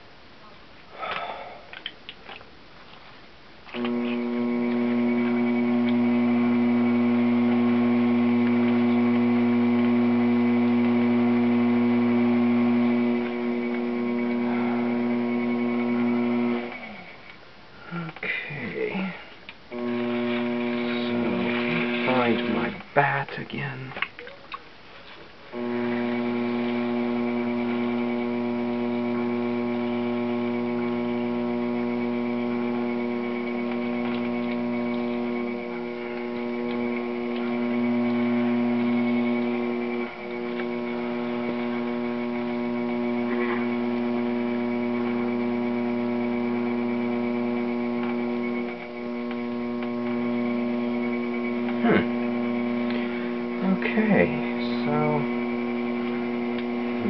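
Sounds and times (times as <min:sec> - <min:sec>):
potter's wheel motor humming: 0:03.7 - 0:23.8, 0:25.5 - 0:57.0.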